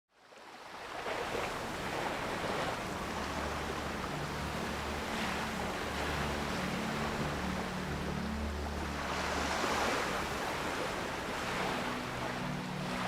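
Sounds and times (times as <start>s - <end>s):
ocean waves washing: 0.3s - 13.0s
ambient music drone: 1.6s - 13.0s.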